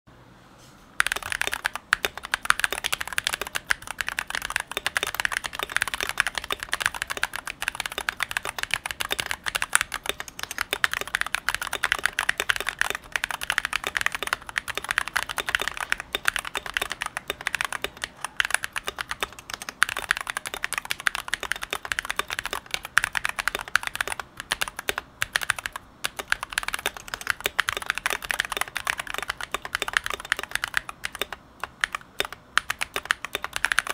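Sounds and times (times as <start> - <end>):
mechanical keyboard typing: 1.0 - 33.9.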